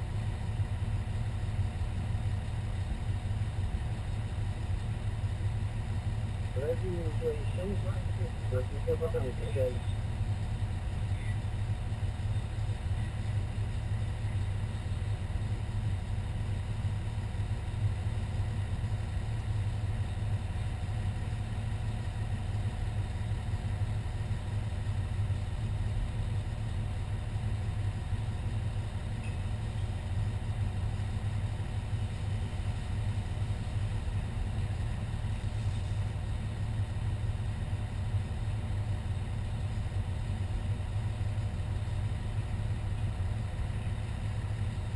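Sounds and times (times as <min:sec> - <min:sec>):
fire engine engine droning: 0:00.0 - 0:44.9.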